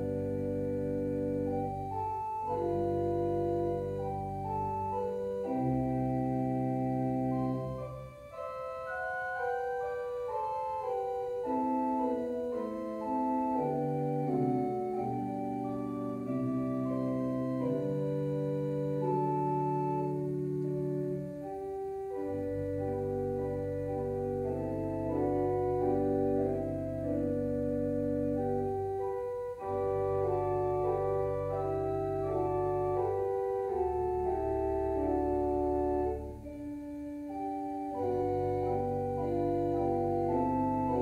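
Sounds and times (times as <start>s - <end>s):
organ playing slow chords: 0.0s - 41.0s.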